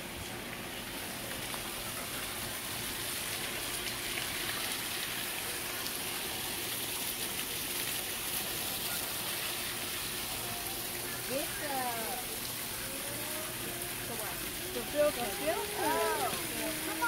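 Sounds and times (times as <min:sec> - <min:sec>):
water gushing and splashing: 0:00.0 - 0:17.0.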